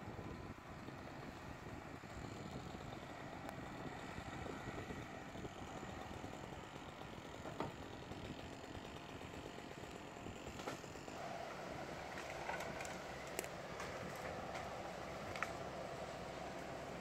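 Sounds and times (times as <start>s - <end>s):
faint diesel engine running: 0.0s - 17.0s.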